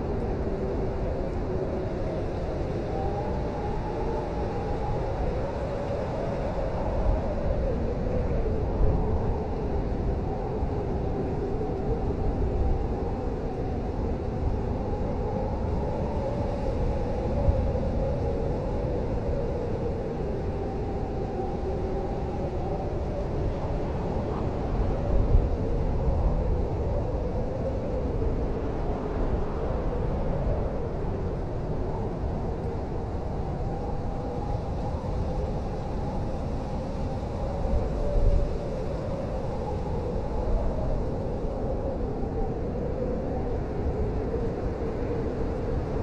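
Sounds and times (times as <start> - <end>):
blizzard wind howling: 0.0 - 46.0.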